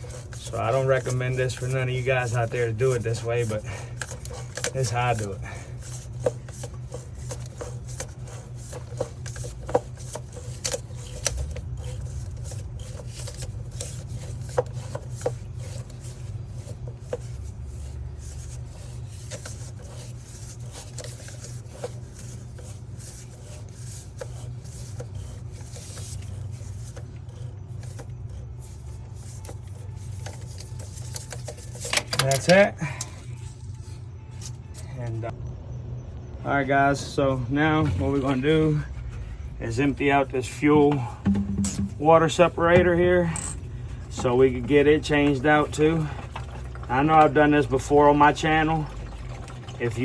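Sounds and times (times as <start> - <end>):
filter wrench scraping and clicking: 0.0 - 33.8, 40.5 - 47.3
steady low hum: 0.0 - 47.0.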